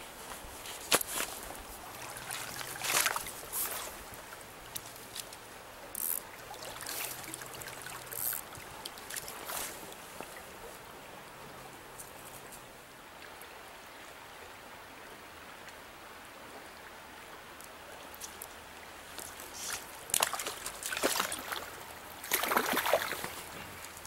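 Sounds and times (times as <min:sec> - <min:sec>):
stream flowing: 0:00.0 - 0:24.0.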